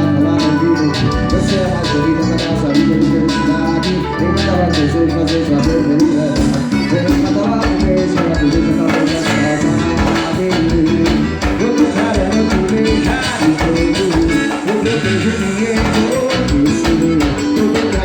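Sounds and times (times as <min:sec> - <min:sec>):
band playing a steady beat: 0:00.0 - 0:18.0
person singing: 0:00.0 - 0:18.0.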